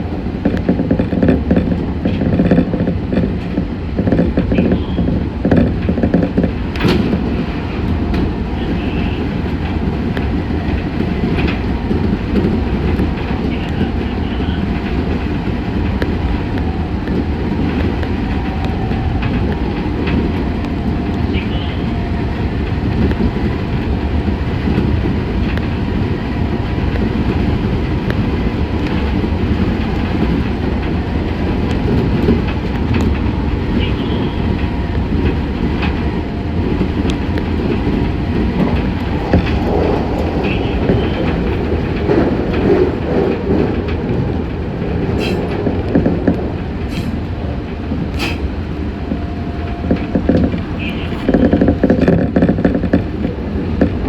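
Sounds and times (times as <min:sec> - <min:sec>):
train rumble inside car: 0:00.0 - 0:54.0
wheels clicking over rail joints: 0:00.0 - 0:54.0.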